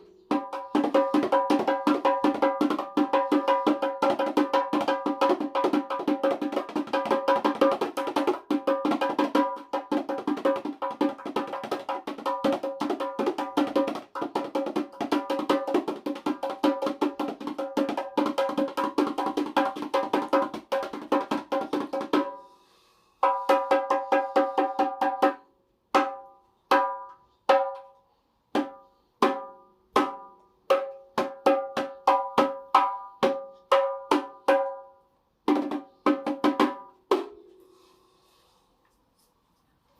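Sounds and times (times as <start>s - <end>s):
hand-beaten frame drums: 0.0s - 22.6s, 23.2s - 37.9s.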